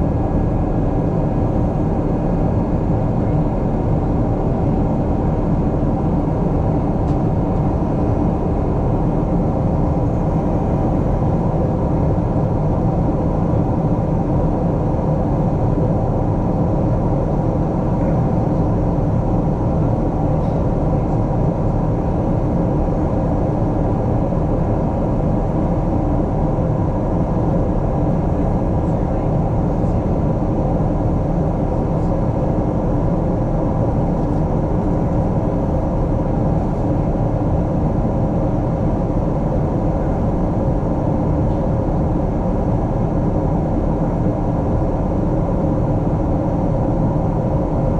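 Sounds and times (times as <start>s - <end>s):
airplane cabin noise: 0.0s - 47.9s.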